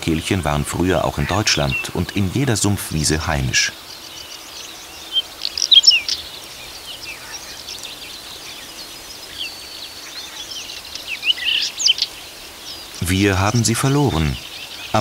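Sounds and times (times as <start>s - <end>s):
faint meadow background: 0.0s - 15.0s
bird singing chirps and whistles: 1.1s - 2.6s, 3.6s - 15.0s.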